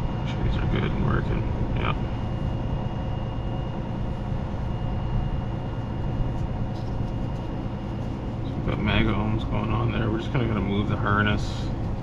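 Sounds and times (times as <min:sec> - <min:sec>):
faint high whine: 0:00.0 - 0:12.0
low mechanical rumble: 0:00.0 - 0:12.0.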